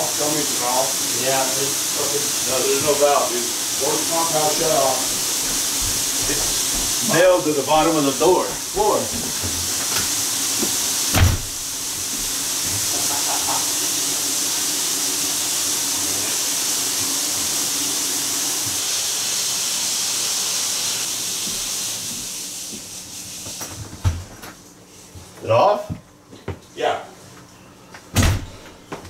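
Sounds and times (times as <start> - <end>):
pressurised water spraying hiss: 0.0 - 23.8.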